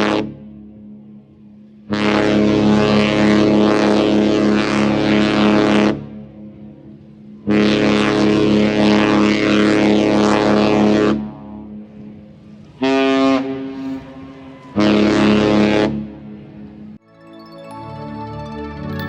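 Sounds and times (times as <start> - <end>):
ship horn blasts: 0.0 - 17.0.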